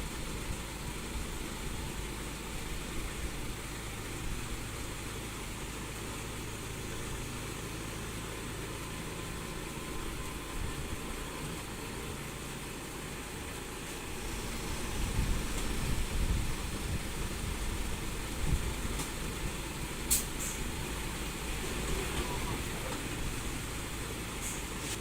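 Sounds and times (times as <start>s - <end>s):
diesel engine of heavy machinery: 0.0s - 25.0s.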